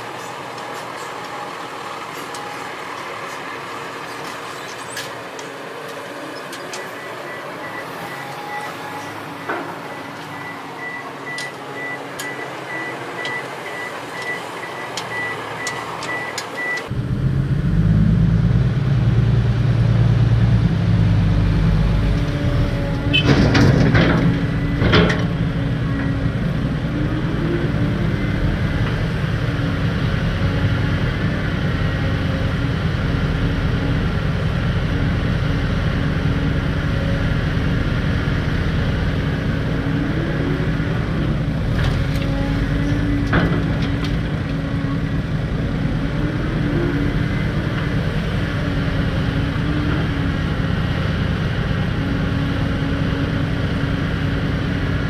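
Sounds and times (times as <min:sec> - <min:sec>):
heavy diesel engine rumbling: 0:00.0 - 0:55.0.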